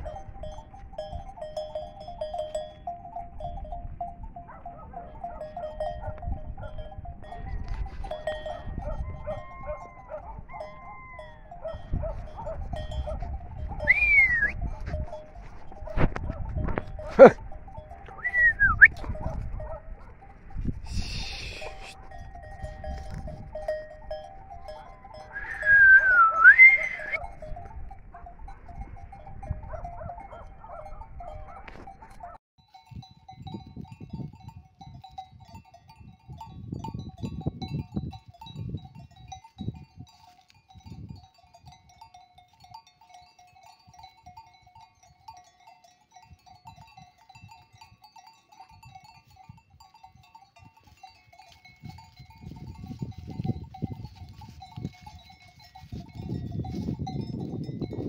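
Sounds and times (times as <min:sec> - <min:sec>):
faint jingling: 0:00.0 - 0:25.6, 0:27.1 - 0:58.0.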